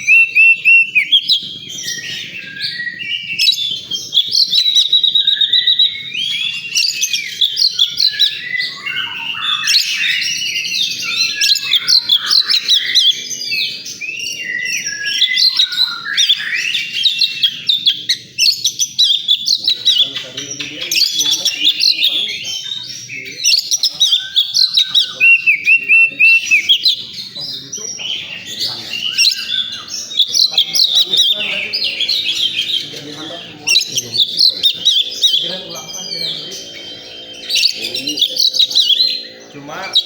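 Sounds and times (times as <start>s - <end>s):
bird singing whistles and trills: 0.0s - 40.0s.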